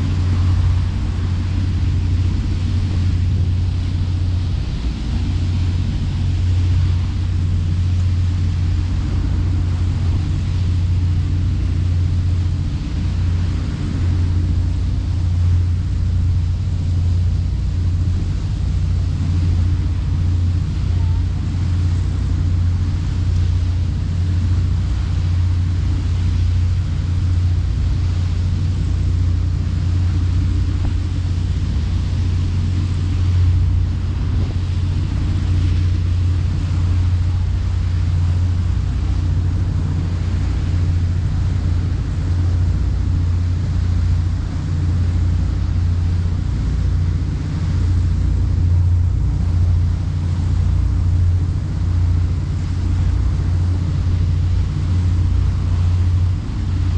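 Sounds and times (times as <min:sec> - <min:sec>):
boat engine droning: 0:00.0 - 0:56.9
wind: 0:00.0 - 0:56.9.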